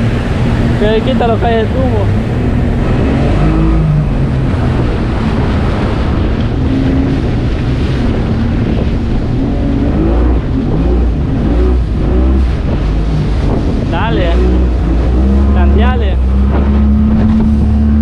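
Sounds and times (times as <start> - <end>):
outboard motor running: 0.0 - 18.0
waves washing: 0.0 - 18.0
wind buffeting microphone: 0.0 - 18.0.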